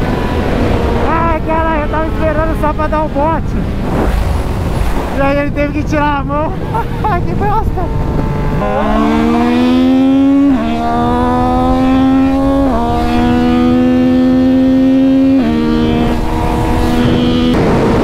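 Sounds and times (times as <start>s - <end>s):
motorcycle engine accelerating: 0.0s - 18.0s
wind rush: 0.0s - 18.0s.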